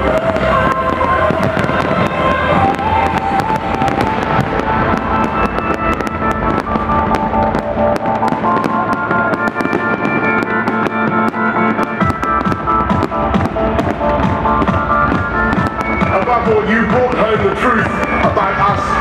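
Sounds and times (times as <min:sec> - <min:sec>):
fireworks bursting and crackling: 0:00.0 - 0:19.0
loud music with sustained notes: 0:00.0 - 0:19.0.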